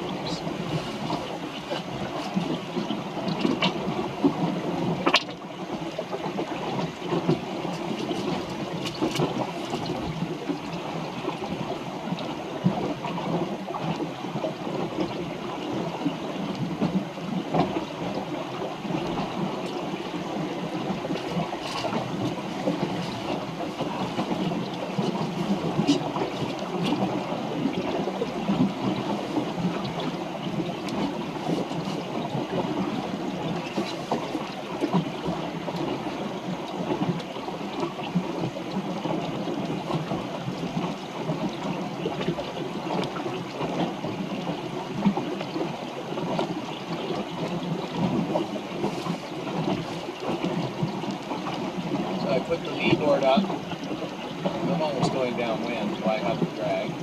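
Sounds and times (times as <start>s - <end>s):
water gurgling along boat hull: 0.0s - 57.0s.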